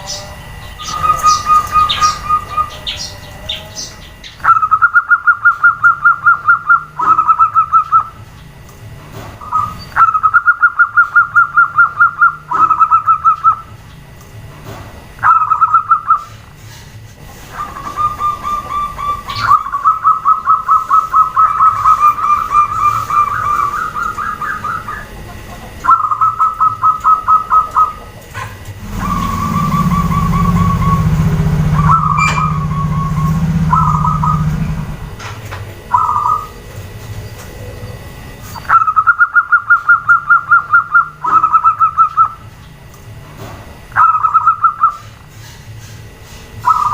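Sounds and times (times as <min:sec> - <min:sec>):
doves calling in pulsed notes: 0:00.0 - 0:14.2, 0:15.1 - 0:42.9, 0:43.8 - 0:46.9
low steady hum: 0:00.0 - 0:46.9.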